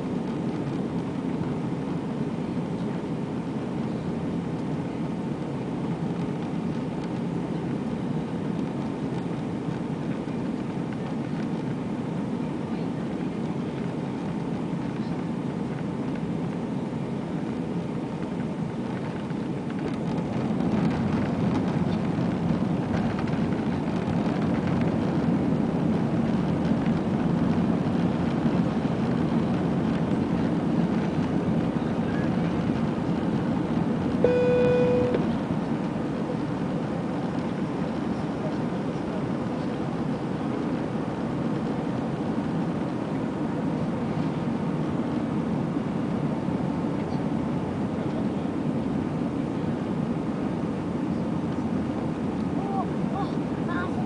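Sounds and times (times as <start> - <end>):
airplane cabin engine noise: 0.0 - 54.0.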